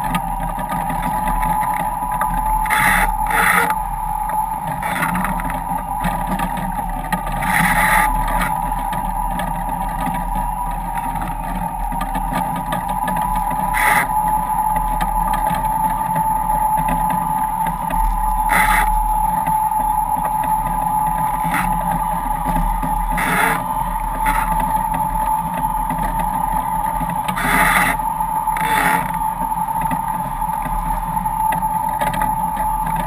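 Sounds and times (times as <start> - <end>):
high-pitched hum from foils: 0.0 - 33.0.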